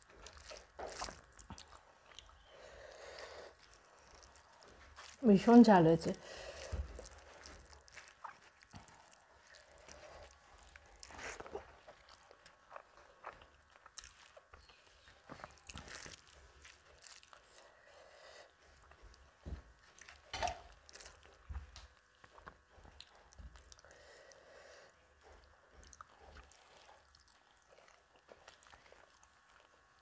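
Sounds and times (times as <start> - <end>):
chewing and lip smacks: 0.0 - 5.2, 6.5 - 17.7, 19.8 - 24.0, 24.8 - 30.0.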